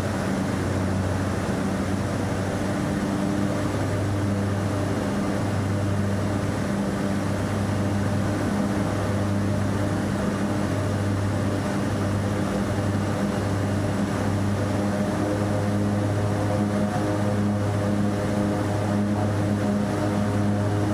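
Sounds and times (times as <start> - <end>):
turboprop engines droning: 0.0 - 20.9.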